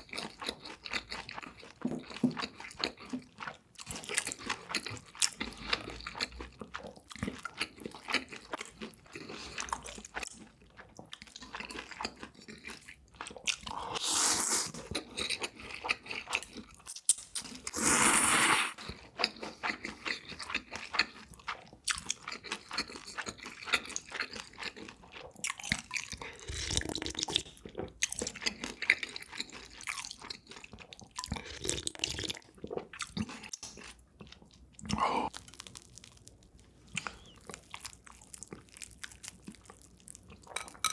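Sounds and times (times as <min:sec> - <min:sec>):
person chewing and crunching food: 0:00.0 - 0:40.9.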